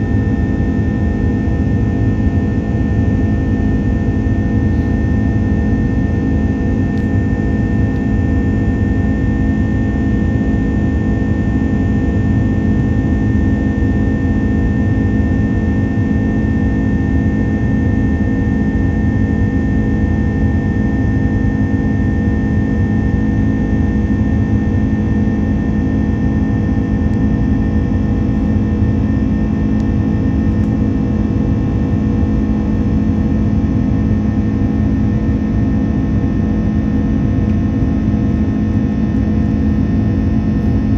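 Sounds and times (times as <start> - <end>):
jet engine rumble in cabin: 0.0 - 40.9
thin steady whine: 0.0 - 40.9.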